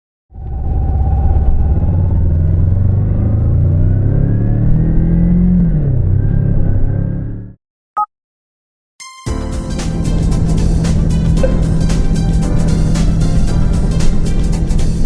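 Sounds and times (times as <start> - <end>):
motorcycle engine accelerating: 0.3 - 7.6, 9.9 - 15.0.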